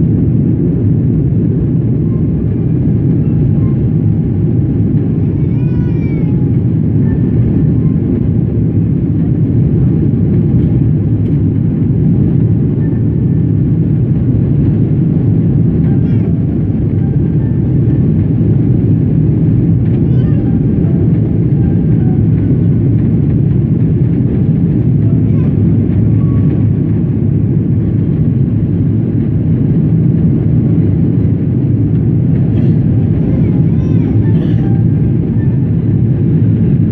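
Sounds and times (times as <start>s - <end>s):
jet engine rumble in cabin: 0.0s - 36.9s.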